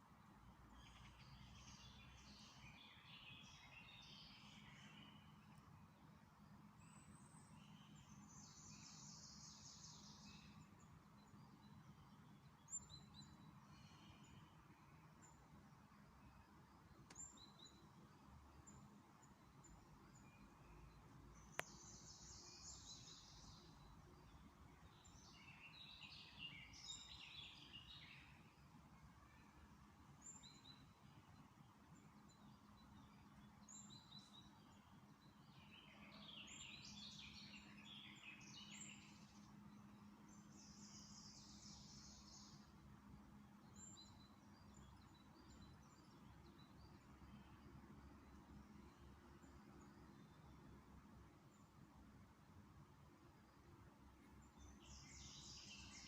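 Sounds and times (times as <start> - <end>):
low steady hum: 0.0 - 56.0
songbirds singing: 0.0 - 56.0.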